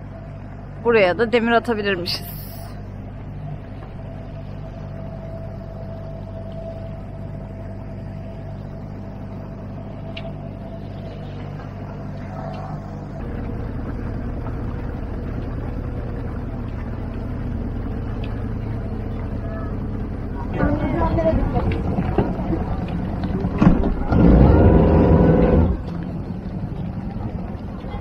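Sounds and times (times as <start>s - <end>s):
outboard motor running: 0.0s - 28.0s.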